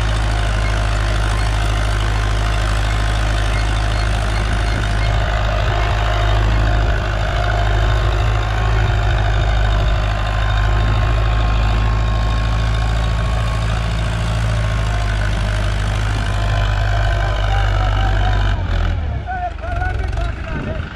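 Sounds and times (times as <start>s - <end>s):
tractor diesel engine under load: 0.0s - 20.9s.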